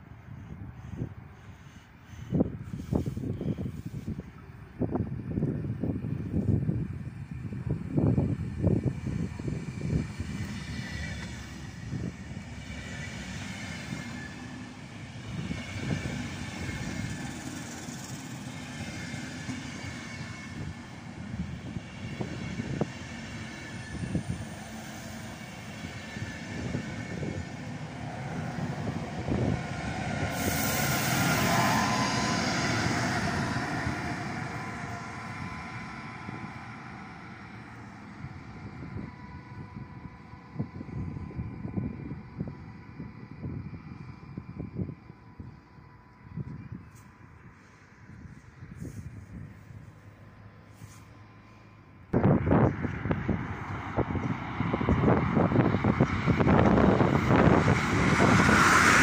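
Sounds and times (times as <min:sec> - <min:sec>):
electric locomotive passing: 0:00.0 - 0:59.0.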